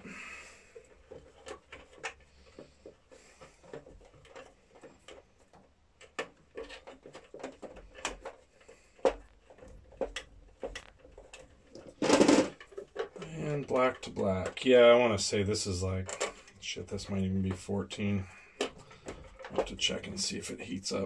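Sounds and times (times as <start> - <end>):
hand tools clicking and tapping: 0.0 - 15.1, 16.0 - 20.2.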